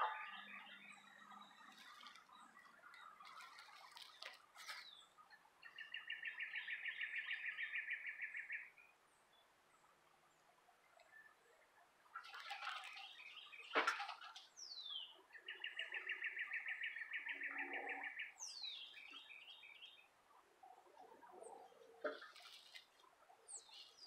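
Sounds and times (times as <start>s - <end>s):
bird chirps: 0.0s - 9.0s, 12.1s - 24.0s.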